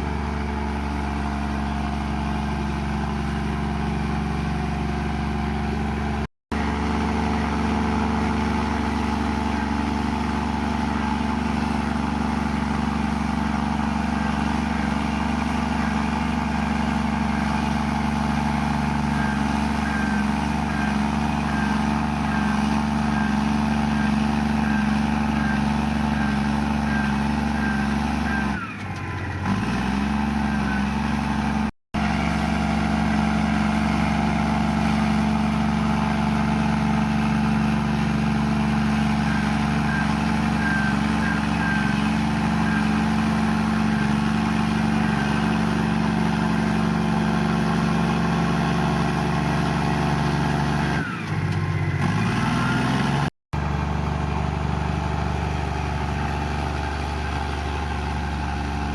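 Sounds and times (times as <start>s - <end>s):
bulldozer diesel engine running: 0.0s - 58.9s.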